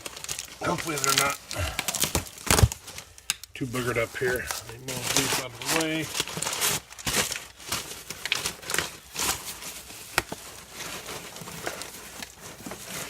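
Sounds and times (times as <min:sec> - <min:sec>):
cardboard and packing rustling: 0:00.0 - 0:13.0.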